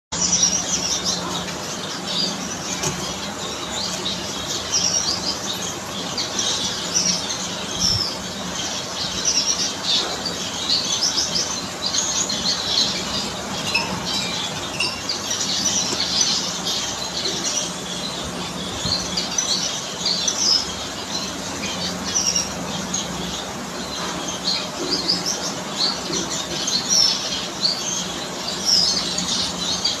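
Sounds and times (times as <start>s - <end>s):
finches chirping: 0.2s - 30.0s.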